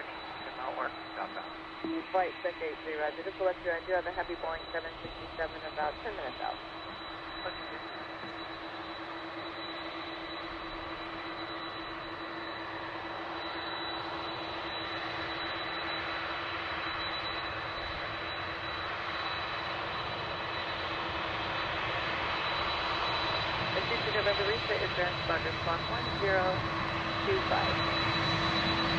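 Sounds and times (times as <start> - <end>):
jet engines with faint whine: 0.0 - 28.9.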